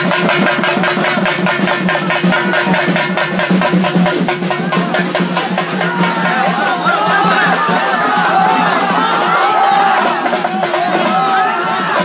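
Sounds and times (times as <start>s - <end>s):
percussion band drumming: 0.0s - 12.0s.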